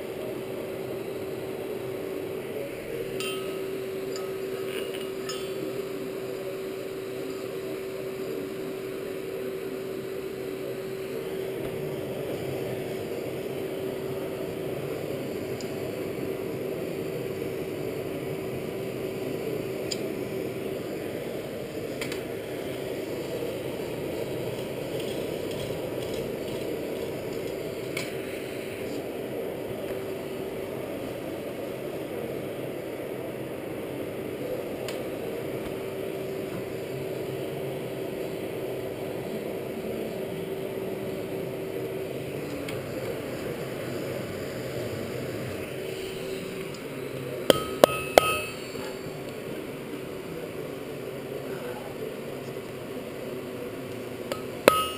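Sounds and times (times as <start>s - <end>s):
forge air blower humming: 0.0s - 54.9s.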